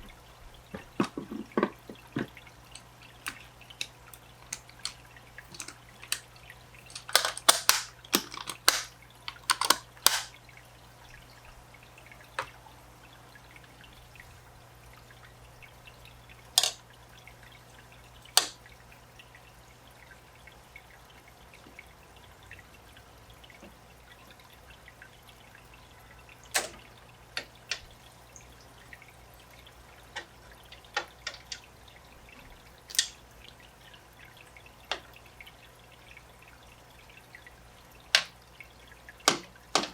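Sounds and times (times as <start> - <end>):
water dripping into aquarium: 0.0 - 39.9.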